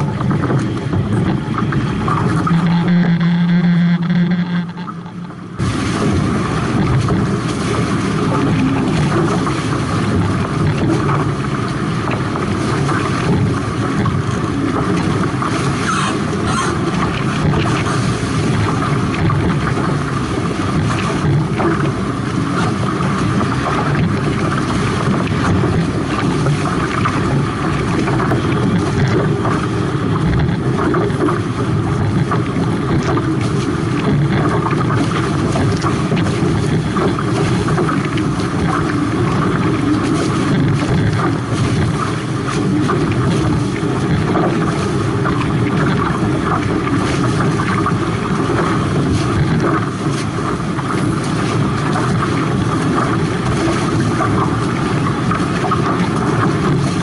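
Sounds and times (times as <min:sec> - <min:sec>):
water rushing along hulls: 0:00.0 - 0:57.0
wind noise on microphone: 0:00.0 - 0:57.0.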